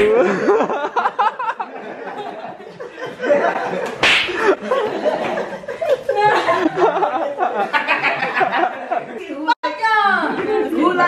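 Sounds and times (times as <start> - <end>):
people laughing and shouting: 0.0 - 11.0.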